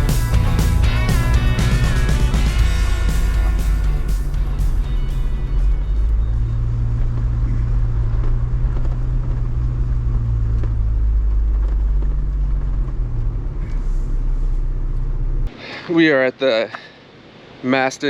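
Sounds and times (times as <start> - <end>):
car engine rumble: 0.0 - 17.7
road noise: 0.0 - 18.0.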